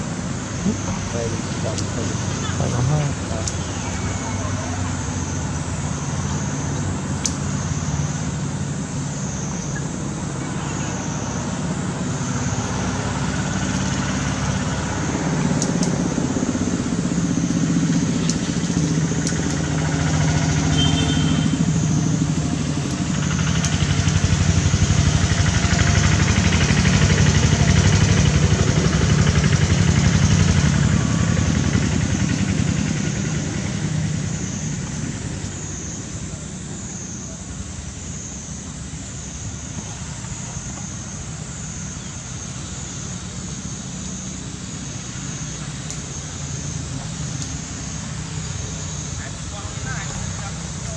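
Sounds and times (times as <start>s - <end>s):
mechanical engine drone: 0.0s - 50.9s.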